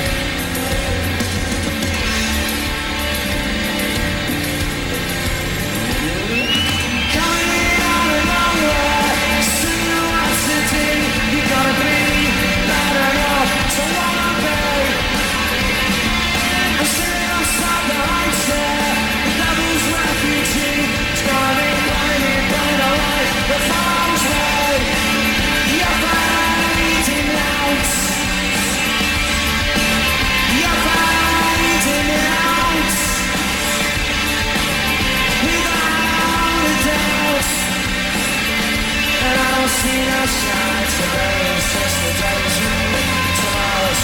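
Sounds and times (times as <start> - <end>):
bass: 0.0 - 44.0
distorted electric guitars: 0.0 - 44.0
drums: 0.0 - 44.0.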